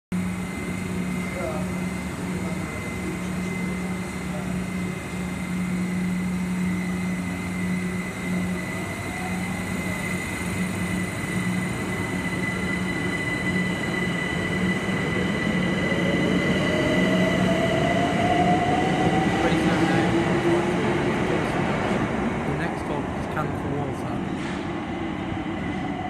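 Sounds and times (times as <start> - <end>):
electric train humming: 0.1 - 26.0.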